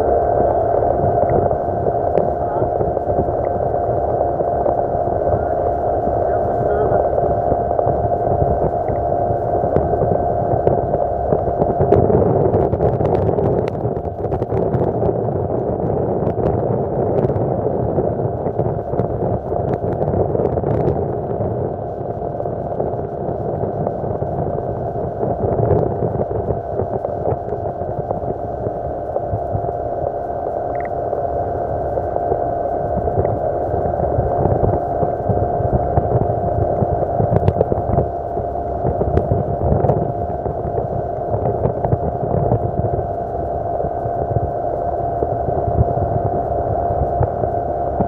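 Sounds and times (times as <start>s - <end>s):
outboard motor running: 0.0s - 48.0s.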